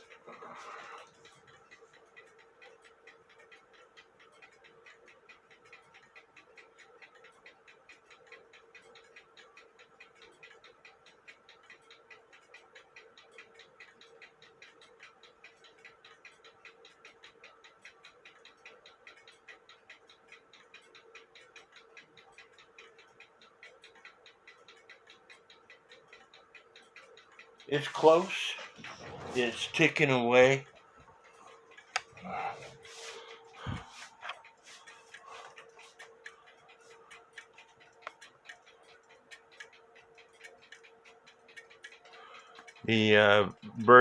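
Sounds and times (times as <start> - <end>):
clock ticking: 0.0 - 44.0
faint steady hum: 0.0 - 44.0.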